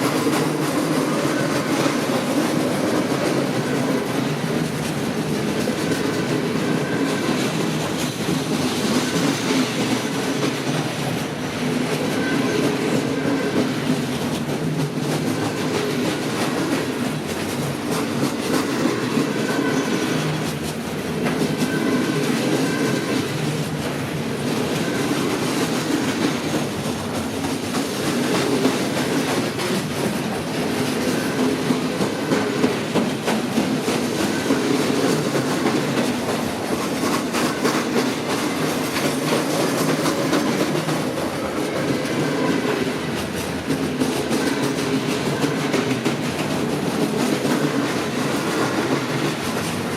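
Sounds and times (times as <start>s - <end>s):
train wheels clattering on rails: 0.0s - 49.9s.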